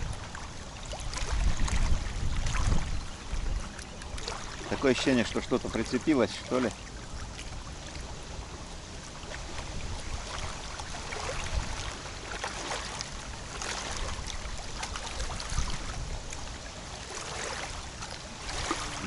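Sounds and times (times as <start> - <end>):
small waves lapping: 0.0 - 19.0
wind rumbling on microphone: 0.0 - 19.0.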